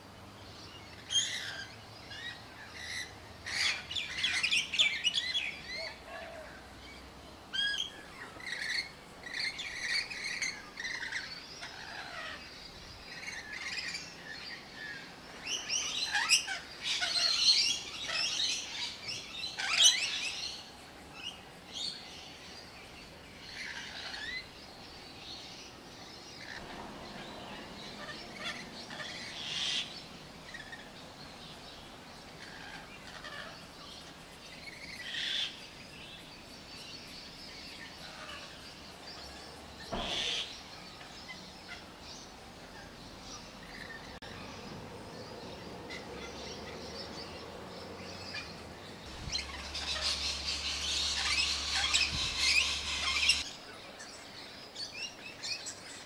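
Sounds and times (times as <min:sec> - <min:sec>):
lorikeets calling: 0:00.0 - 0:56.0.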